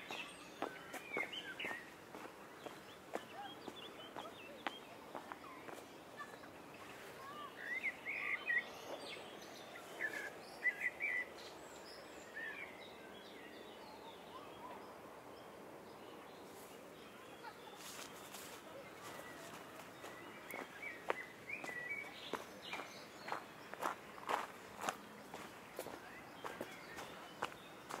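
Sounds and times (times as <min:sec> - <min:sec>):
outdoor background: 0:00.0 - 0:28.0
small birds chirping: 0:00.0 - 0:28.0.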